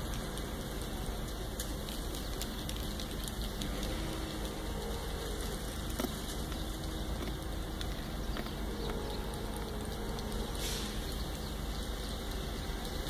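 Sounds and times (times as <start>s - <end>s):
background noise: 0.0s - 13.0s
distant truck engine hum: 0.0s - 13.0s.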